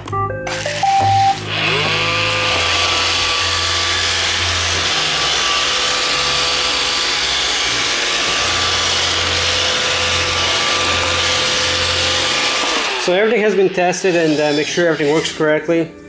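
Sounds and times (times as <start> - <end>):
robot vacuum motor whine: 0.5 - 13.6.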